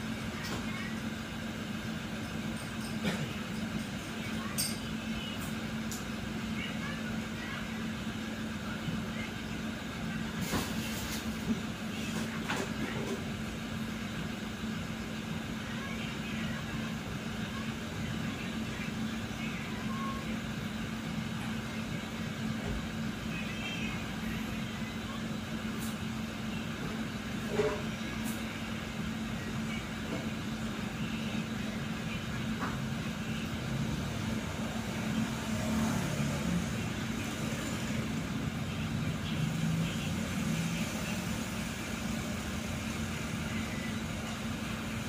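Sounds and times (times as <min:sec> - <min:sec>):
cafe room noise: 0:00.0 - 0:45.0.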